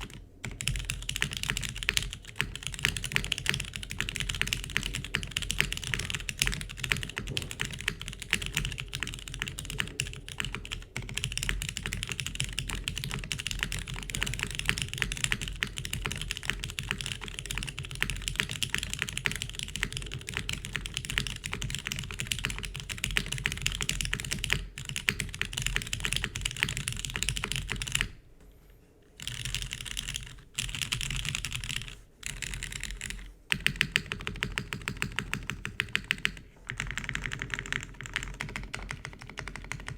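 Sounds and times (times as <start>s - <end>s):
fast mechanical keyboard typing: 0.0s - 28.2s, 29.2s - 39.9s.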